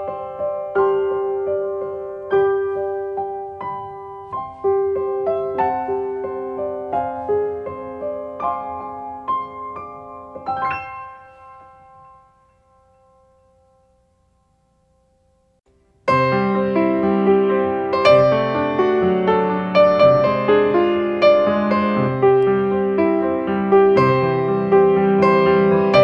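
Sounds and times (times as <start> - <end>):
gentle piano music: 0.0 - 26.0.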